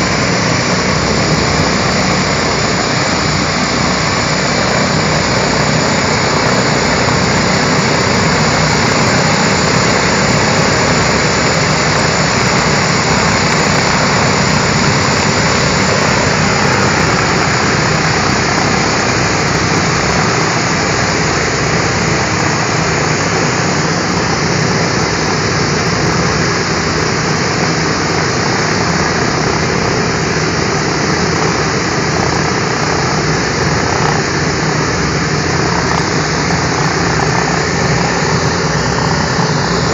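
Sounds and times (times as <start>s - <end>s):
radial piston engines droning: 0.0s - 39.9s.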